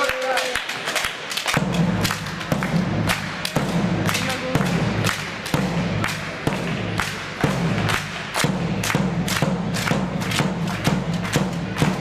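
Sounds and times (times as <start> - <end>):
low rumble in hall: 1.5 - 12.0.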